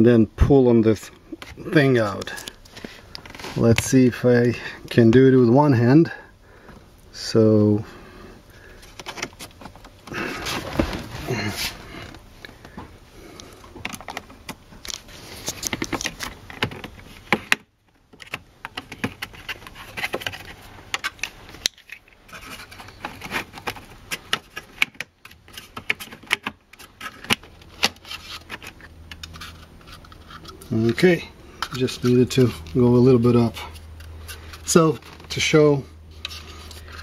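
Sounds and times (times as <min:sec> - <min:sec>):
rubbing and handling noise: 0:00.8 - 0:05.9, 0:06.6 - 0:37.0.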